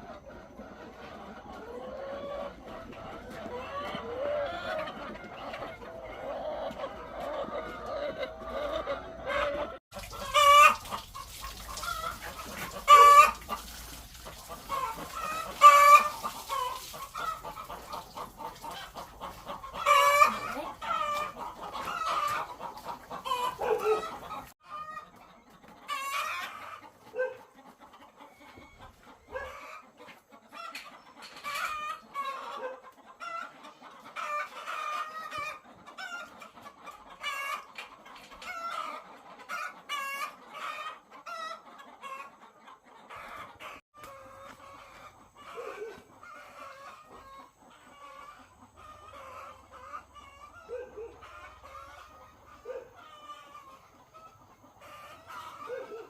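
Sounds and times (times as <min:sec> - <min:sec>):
hens calling: 0:00.0 - 0:56.0.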